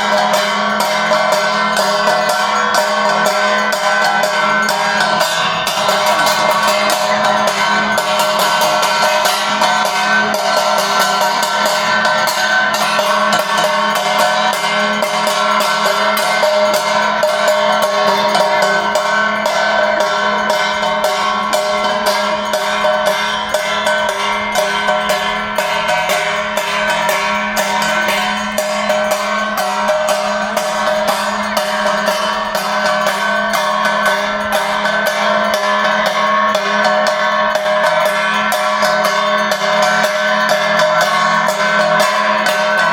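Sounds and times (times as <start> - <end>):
fast percussion strikes: 0.0 - 42.9
sustained held tones: 0.0 - 42.9.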